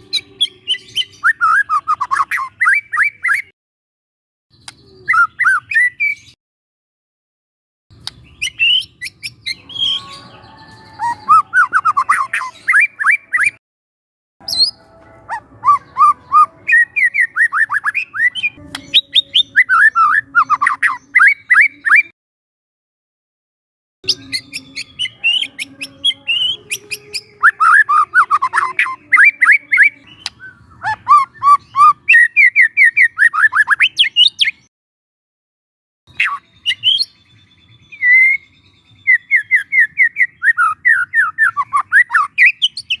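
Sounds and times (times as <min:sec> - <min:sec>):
bird singing whistled notes: 0:00.0 - 0:03.5, 0:04.5 - 0:06.4, 0:08.1 - 0:13.6, 0:14.4 - 0:22.1, 0:24.1 - 0:34.7, 0:36.1 - 0:43.0.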